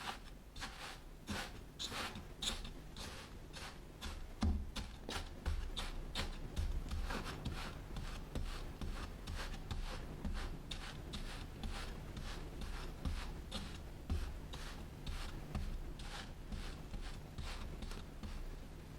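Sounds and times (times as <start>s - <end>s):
sand crumbly rubbing: 0.0s - 18.1s.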